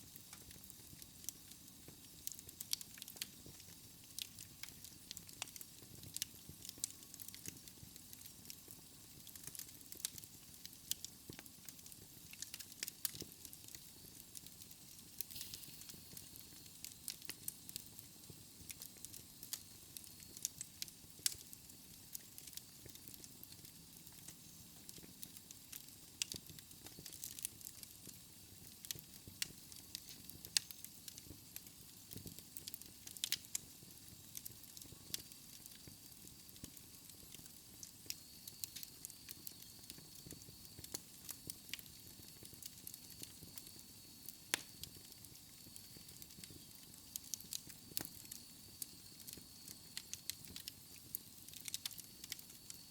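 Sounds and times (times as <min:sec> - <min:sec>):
wood fire crackling and popping: 0:00.0 - 0:52.9.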